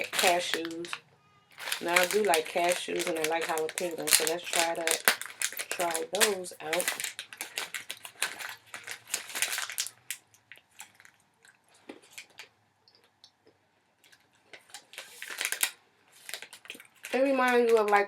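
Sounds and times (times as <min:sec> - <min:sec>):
crunching and chewing nuts: 0:00.0 - 0:17.8.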